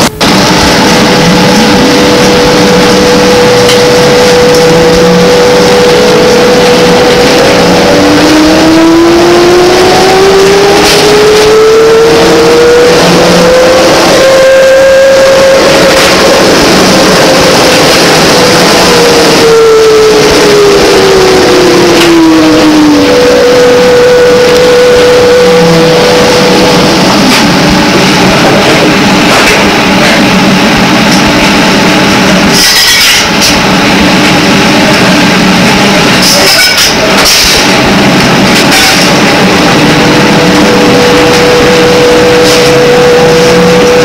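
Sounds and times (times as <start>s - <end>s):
road noise: 0.0s - 44.0s
trolleybus motor whine: 0.0s - 44.0s.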